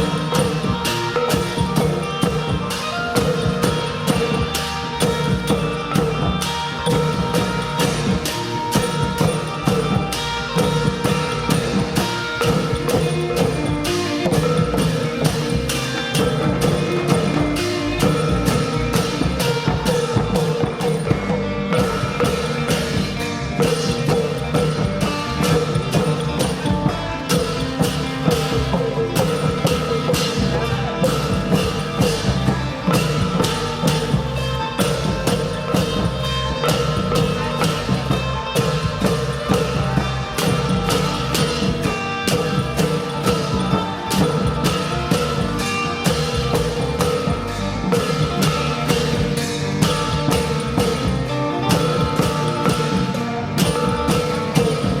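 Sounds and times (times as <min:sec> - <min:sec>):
drums and percussion: 0:00.0 - 0:55.0.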